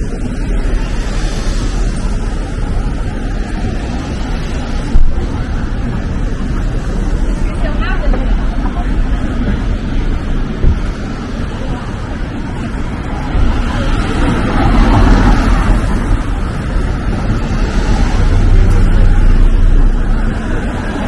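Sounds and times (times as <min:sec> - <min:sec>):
tyres hissing on wet pavement: 0:00.0 - 0:21.0.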